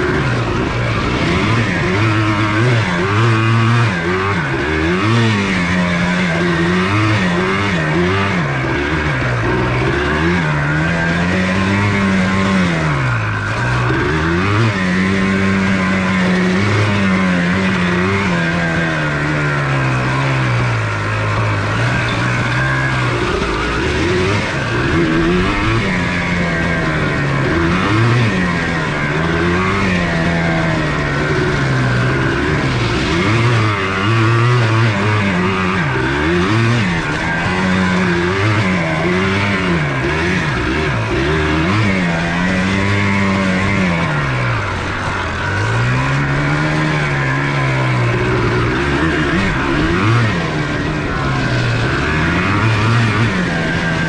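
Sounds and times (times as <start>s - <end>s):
two-stroke quad engine revving: 0.0s - 54.0s.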